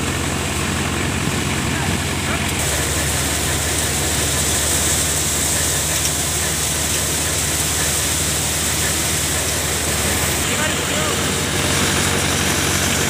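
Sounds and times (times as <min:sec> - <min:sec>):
grain thresher humming: 0:00.0 - 0:13.0.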